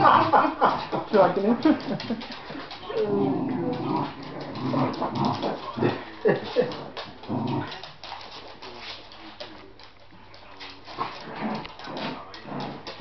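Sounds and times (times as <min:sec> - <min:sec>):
dogs growling: 0:00.0 - 0:08.4, 0:10.4 - 0:13.0.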